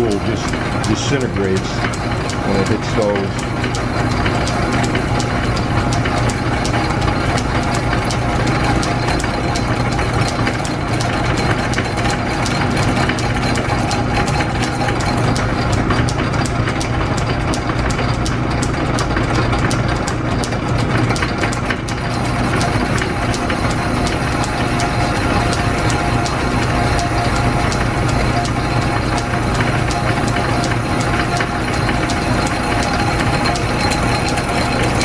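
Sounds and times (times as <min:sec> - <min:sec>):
fast even ticking: 0:00.0 - 0:35.0
lathe motor hum: 0:00.0 - 0:35.0.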